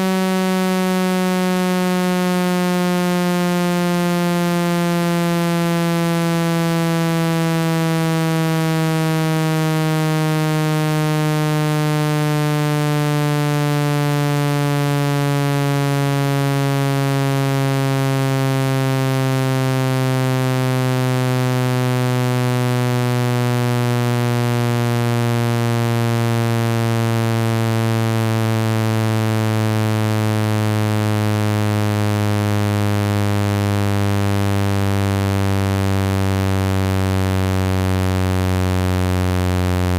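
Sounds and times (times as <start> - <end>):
low synthetic buzzing tone: 0.0 - 39.9.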